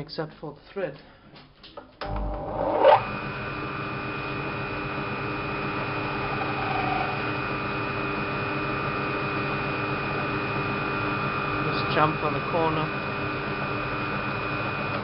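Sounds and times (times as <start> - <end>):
metal lathe running with whine: 2.1 - 15.0.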